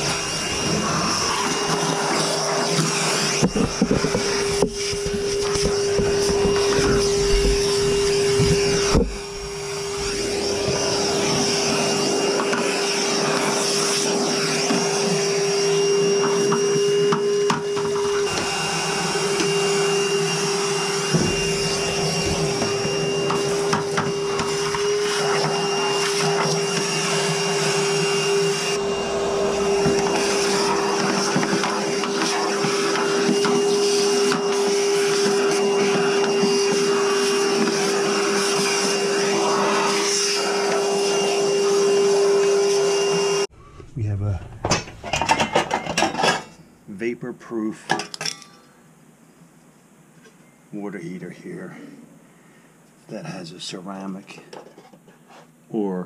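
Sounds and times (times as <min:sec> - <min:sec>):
shop vacuum running: 0:00.0 - 0:46.3.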